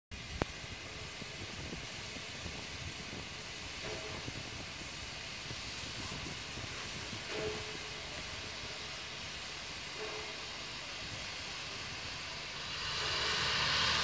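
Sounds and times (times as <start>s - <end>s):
steam hissing: 0.1s - 14.0s.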